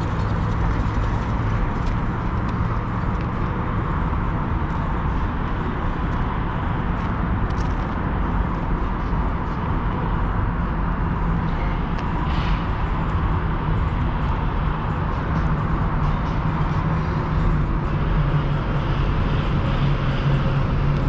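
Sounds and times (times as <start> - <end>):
faint constant hum: 0.0 - 21.0
vehicle low rumble: 0.0 - 21.0.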